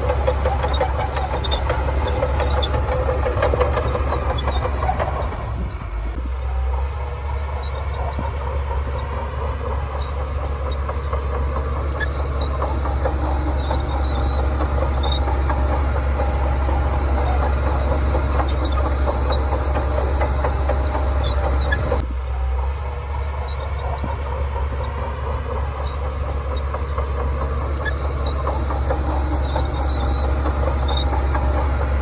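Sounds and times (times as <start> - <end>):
metallic clatter of steel tracks: 0.0 - 6.0, 7.3 - 22.0, 22.8 - 32.0
bulldozer diesel engine running: 0.0 - 32.0.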